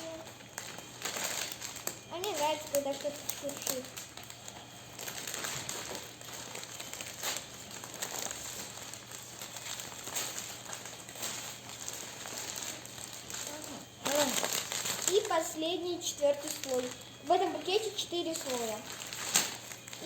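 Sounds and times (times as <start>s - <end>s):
wrapping rustling and crinkling: 0.0s - 20.0s.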